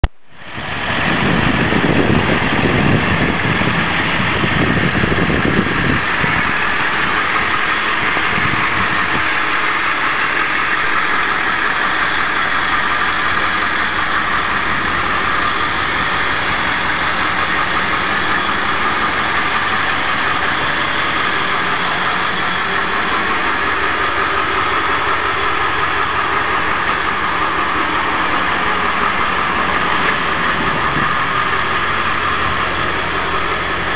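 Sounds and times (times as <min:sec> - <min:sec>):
ambulance engine idling: 0:00.0 - 0:33.9.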